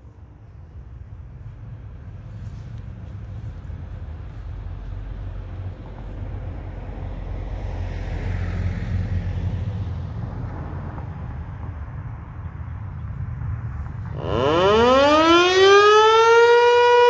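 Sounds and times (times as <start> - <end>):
low traffic rumble: 0.0 - 17.0
vehicle passing: 1.1 - 17.0.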